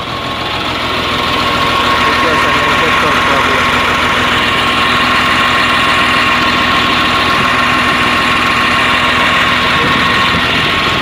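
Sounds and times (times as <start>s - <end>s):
diesel engine idling with misfire: 0.0s - 11.0s
high whine: 0.0s - 11.0s.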